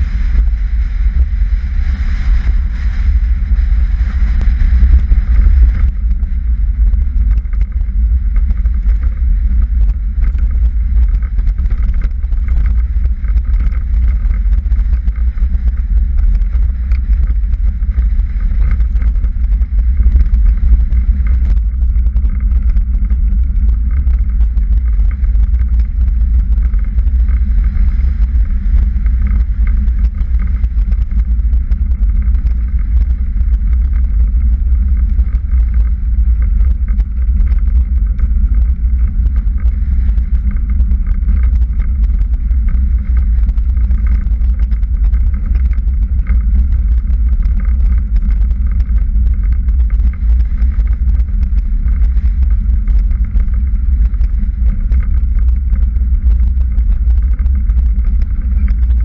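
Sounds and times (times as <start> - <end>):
velomobile rolling hum: 0.0 - 59.0
wind buffeting microphone: 0.0 - 59.0.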